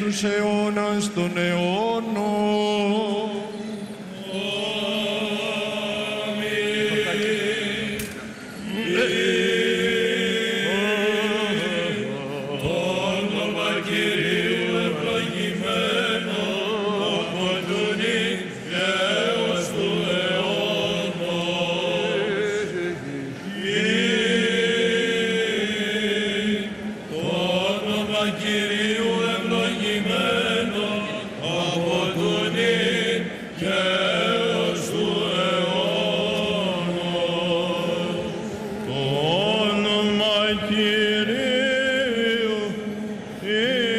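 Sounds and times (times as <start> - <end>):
held vocal drone: 0.0 - 43.9.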